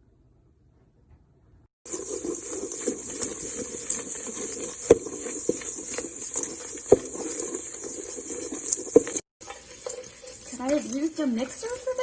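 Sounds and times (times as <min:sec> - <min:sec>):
dough scraping and stirring: 0:01.8 - 0:12.0.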